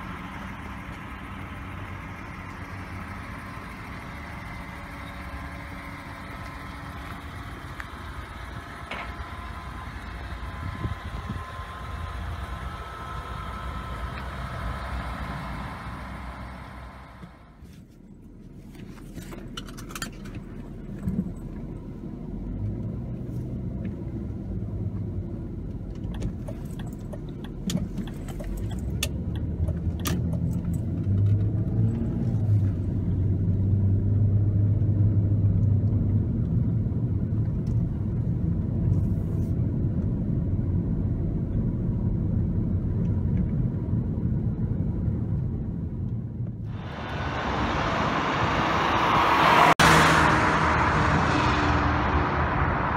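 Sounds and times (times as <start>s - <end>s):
car engine accelerating: 0.0s - 17.6s, 20.0s - 52.9s
car approaching with tyre noise: 0.0s - 52.9s.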